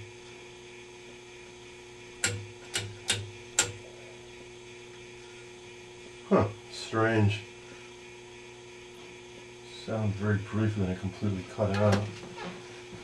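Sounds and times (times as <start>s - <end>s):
television low hum: 0.0s - 13.0s.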